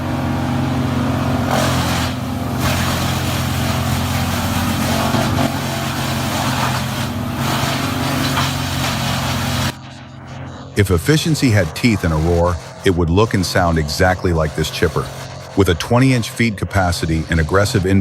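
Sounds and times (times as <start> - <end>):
heavy machine engine running: 0.0 - 18.0
grinding of wood: 1.4 - 9.8, 10.8 - 18.0.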